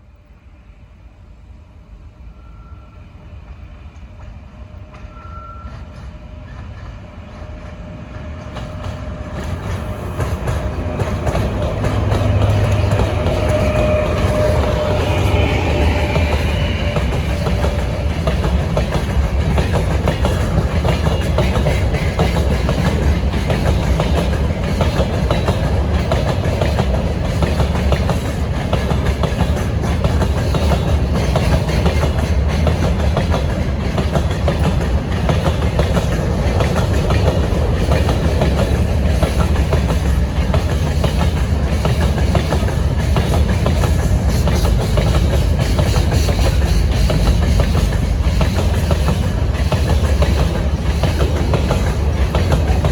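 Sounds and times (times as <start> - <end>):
heavy low train rumble: 0.0 - 52.9
train wheels clickety-clack: 2.4 - 52.9.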